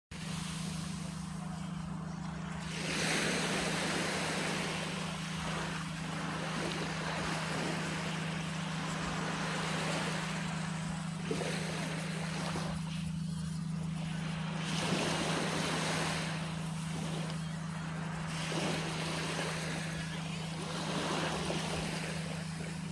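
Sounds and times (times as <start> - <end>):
steady low hum: 0.1 - 22.9
waves breaking on beach: 0.1 - 22.9.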